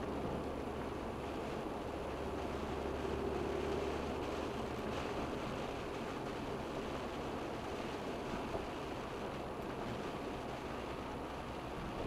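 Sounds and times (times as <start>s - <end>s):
rain on windscreen: 0.0s - 12.0s
tyres hissing on wet road: 0.0s - 12.0s.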